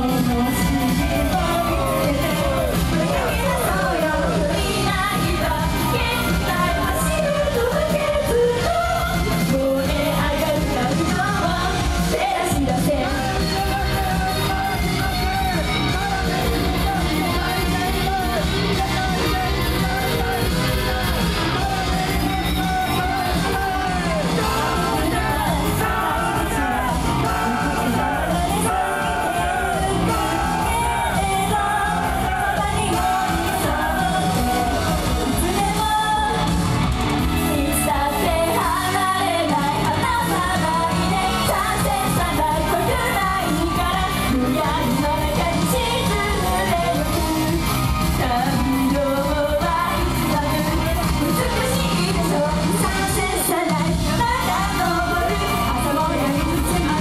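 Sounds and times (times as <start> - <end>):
women singing: 0.0 - 36.5, 37.5 - 57.0
pop backing track with beat: 0.0 - 57.0.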